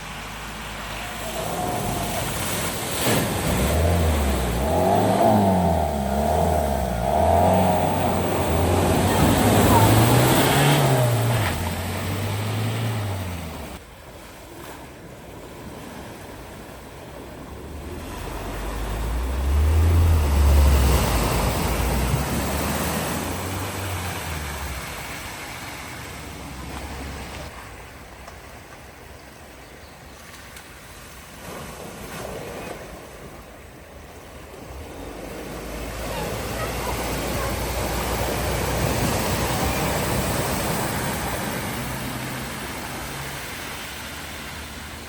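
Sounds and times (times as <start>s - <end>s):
water splashing: 0.0s - 29.1s, 30.1s - 45.0s
rushing water: 0.0s - 45.0s
wind: 0.0s - 45.0s.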